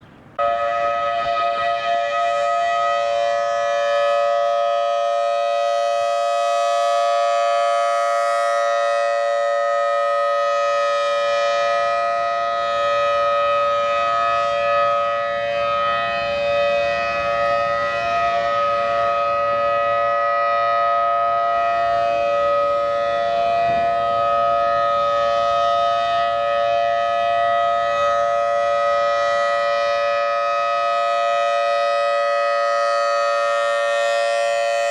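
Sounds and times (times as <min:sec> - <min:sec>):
outdoor warning siren: 0:00.0 - 0:34.9.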